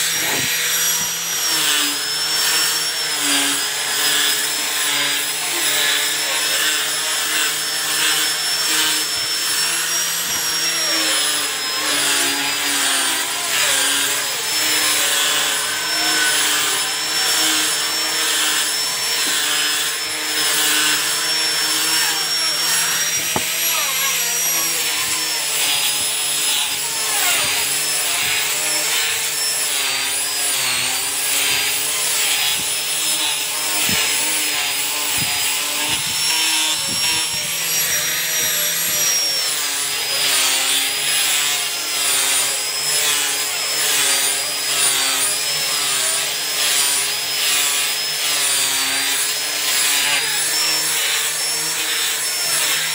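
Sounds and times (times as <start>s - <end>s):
grinder sanding wood: 0.0s - 52.9s.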